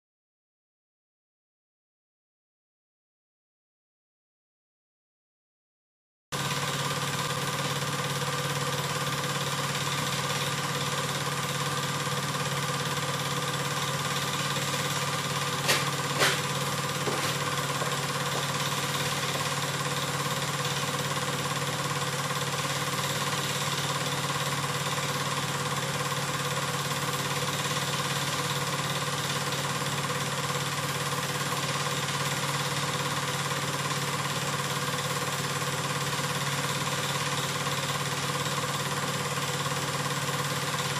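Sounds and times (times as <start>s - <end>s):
film projector whirring: 6.4s - 40.9s.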